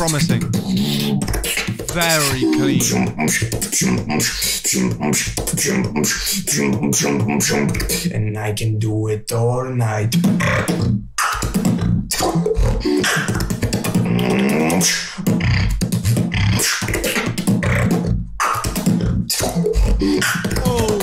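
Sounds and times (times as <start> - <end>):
person beatboxing: 0.0 - 8.1, 10.1 - 21.0.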